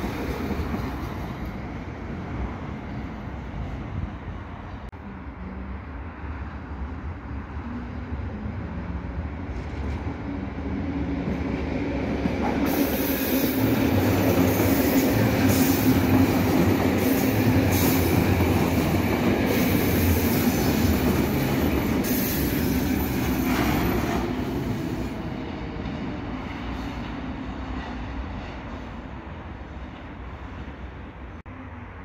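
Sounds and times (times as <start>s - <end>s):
electric train passing: 0.0s - 32.0s.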